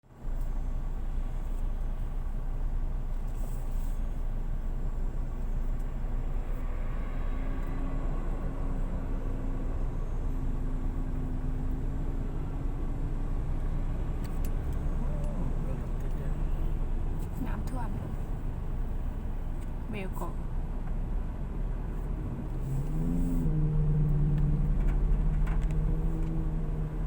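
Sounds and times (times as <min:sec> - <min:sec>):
faint engine hum: 0:00.0 - 0:27.0
vehicle engine rumble: 0:00.0 - 0:27.0.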